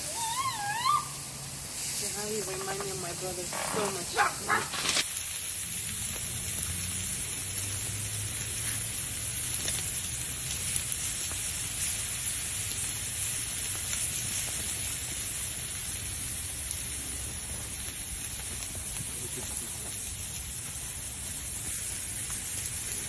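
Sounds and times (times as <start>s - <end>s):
meat sizzling over coals: 0.0s - 23.0s.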